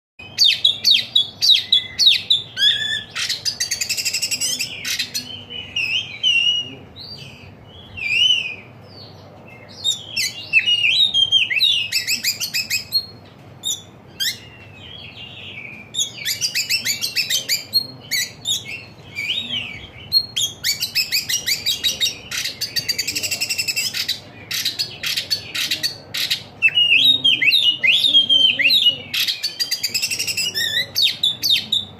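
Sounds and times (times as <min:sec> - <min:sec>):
songbird singing with trills: 0:00.2 - 0:31.9.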